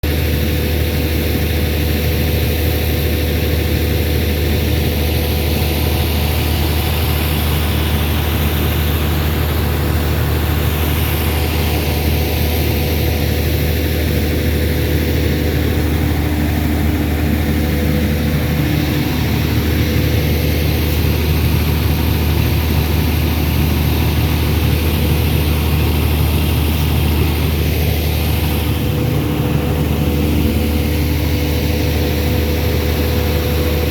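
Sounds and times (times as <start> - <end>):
air compressor engine humming: 0.1 - 33.9.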